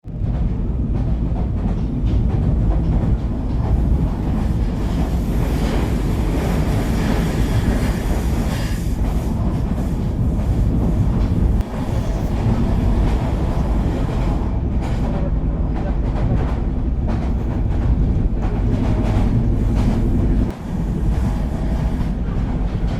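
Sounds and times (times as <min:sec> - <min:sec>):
train rumbling on rails: 0:00.0 - 0:22.9.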